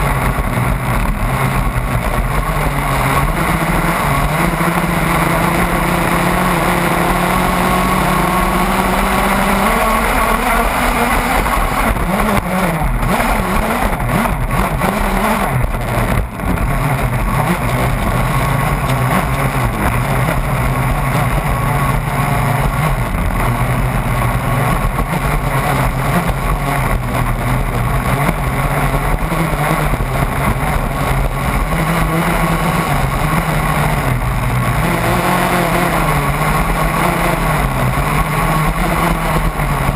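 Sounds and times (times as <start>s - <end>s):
model boat motor running: 0.0s - 39.9s
wind: 0.0s - 39.9s.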